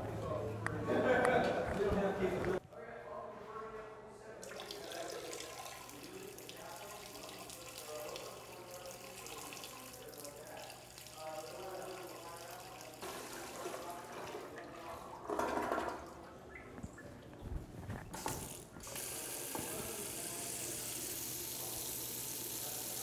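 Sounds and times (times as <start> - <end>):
distant people talking: 0.0 - 17.5, 18.2 - 23.0.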